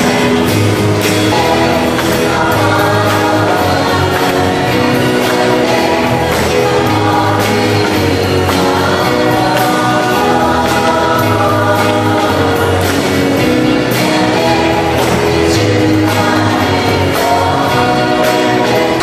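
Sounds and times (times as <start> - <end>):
choir singing with accompaniment: 0.0 - 19.0.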